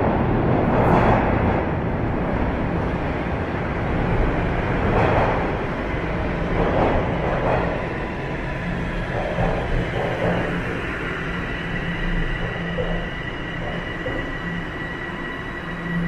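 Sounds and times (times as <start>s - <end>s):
subway platform rumble: 0.0s - 16.0s.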